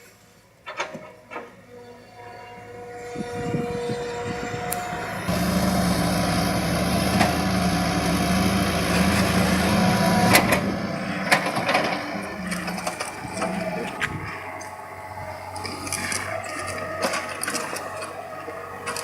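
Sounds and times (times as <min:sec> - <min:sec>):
backhoe engine running: 0:03.4 - 0:19.0.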